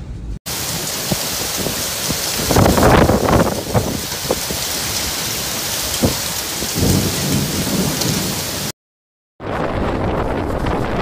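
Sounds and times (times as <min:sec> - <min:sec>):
heavy wind-driven rain: 0:00.2 - 0:08.7, 0:09.4 - 0:11.0
wind gust rushing: 0:00.5 - 0:08.7, 0:09.4 - 0:11.0.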